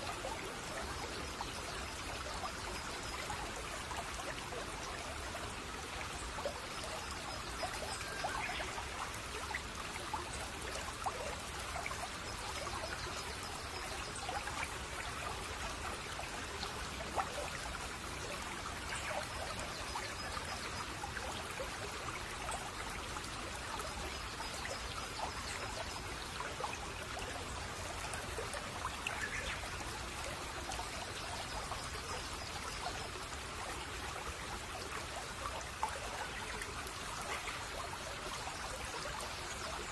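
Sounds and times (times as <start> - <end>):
brook water trickling over stones: 0.0 - 39.9.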